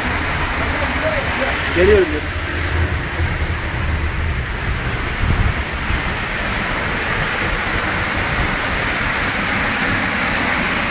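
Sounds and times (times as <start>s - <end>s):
low rumbling: 0.0s - 10.5s
waterfall rushing: 0.0s - 10.9s.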